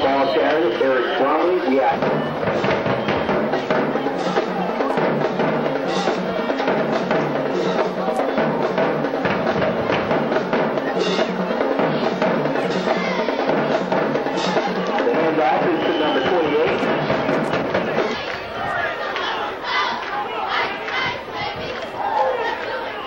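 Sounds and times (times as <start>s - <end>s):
band music with busy drums: 0.0s - 19.9s.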